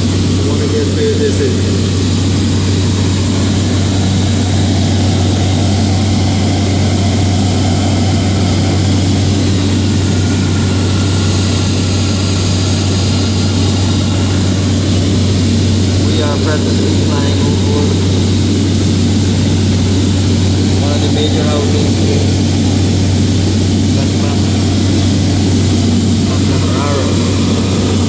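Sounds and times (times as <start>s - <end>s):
light aircraft cabin drone: 0.0s - 28.0s.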